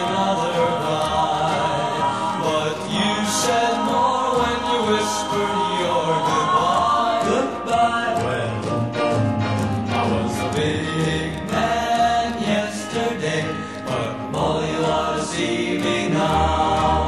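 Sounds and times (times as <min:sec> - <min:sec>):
male vocal harmony singing: 0:00.0 - 0:09.1, 0:09.8 - 0:17.0
orchestral backing: 0:00.0 - 0:17.0.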